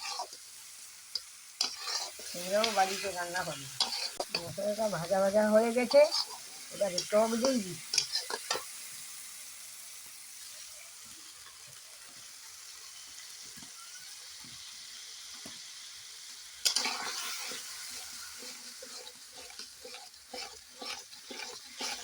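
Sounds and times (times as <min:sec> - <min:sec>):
loud sizzle of curd added: 0:00.0 - 0:22.0
masala sizzling in oil: 0:00.0 - 0:22.0.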